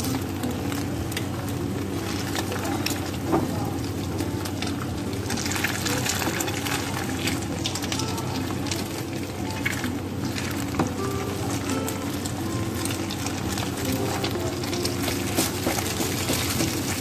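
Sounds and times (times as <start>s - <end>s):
egg sizzling in pan: 0.0s - 17.0s.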